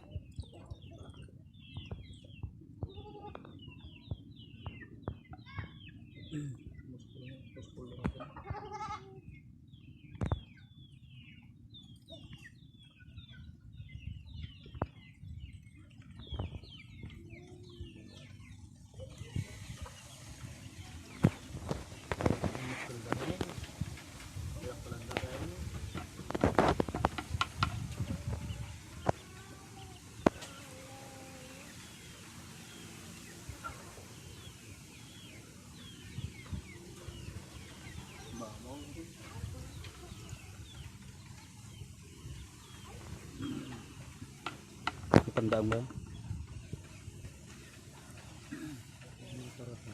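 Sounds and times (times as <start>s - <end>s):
birds chirping: 0.0s - 49.9s
chicks peeping: 0.0s - 49.9s.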